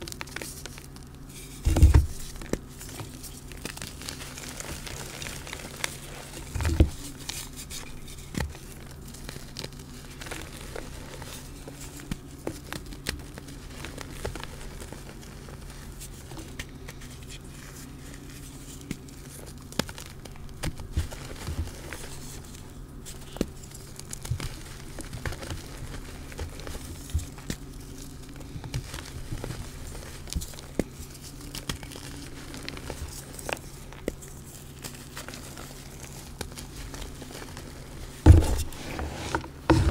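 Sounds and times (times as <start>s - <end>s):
chalk blocks crunching and crumbling: 0.0s - 39.9s.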